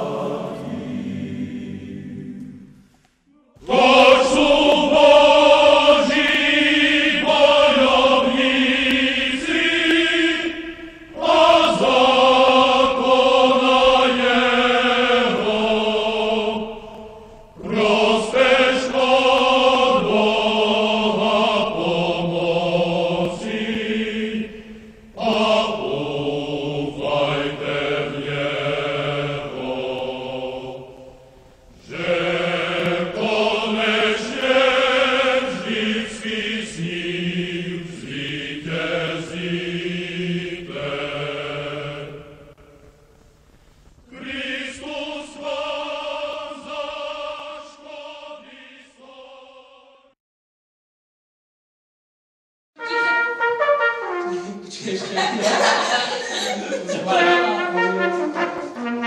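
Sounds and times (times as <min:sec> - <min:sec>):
choir singing: 0:00.0 - 0:43.0, 0:44.1 - 0:50.2, 0:52.8 - 0:59.0.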